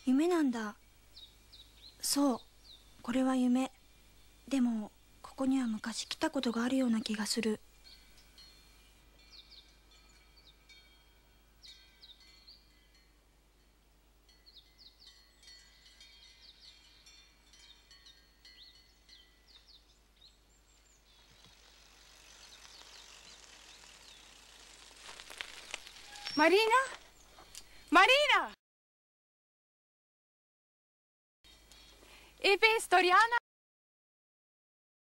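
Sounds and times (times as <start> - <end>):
soft hiss: 0.0 - 28.1, 31.5 - 33.2
faint birdsong chirps: 0.0 - 28.4, 31.5 - 33.1.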